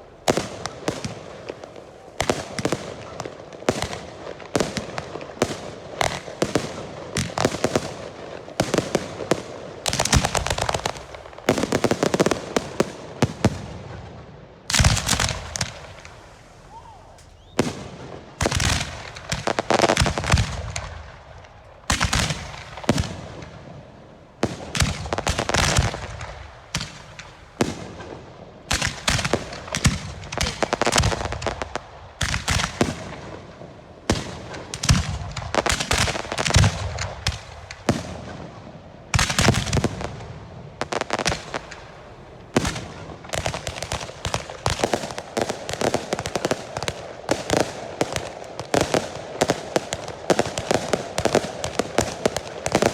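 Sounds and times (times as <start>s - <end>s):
festival rockets bursting: 0.0s - 52.9s
sharp bangs and crackle: 0.0s - 52.9s.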